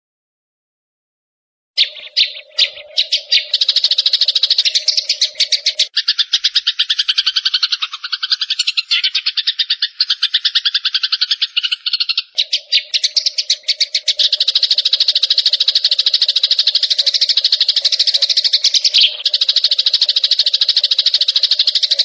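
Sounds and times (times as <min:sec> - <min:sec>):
small birds chattering in trills: 0:01.8 - 0:22.0.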